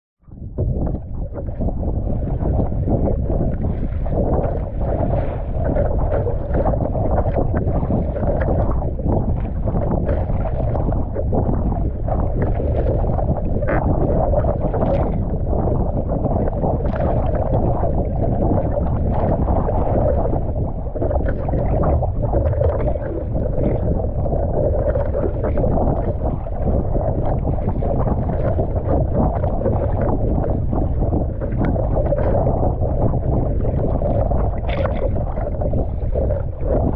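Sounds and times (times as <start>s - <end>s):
wind buffeting microphone: 0.2s - 36.9s
water rushing along boat hull: 0.5s - 36.9s.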